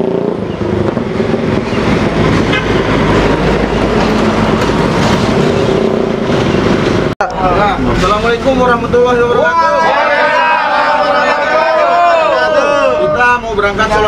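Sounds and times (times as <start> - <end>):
diesel bus engines rumbling: 0.0 - 14.0
street traffic: 0.0 - 14.0.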